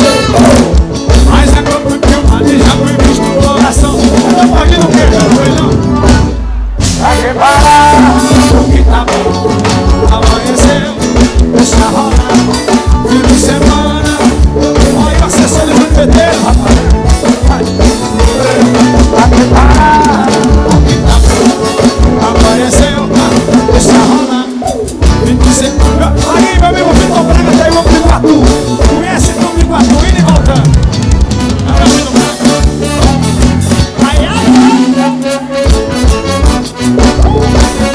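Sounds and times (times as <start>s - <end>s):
band music with drum beat: 0.0s - 37.9s.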